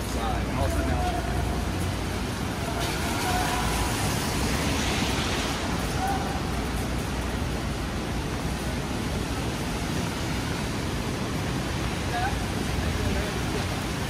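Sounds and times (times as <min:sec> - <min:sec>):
heavy rain on a street: 0:00.0 - 0:14.0
traffic rumbling: 0:00.0 - 0:14.0.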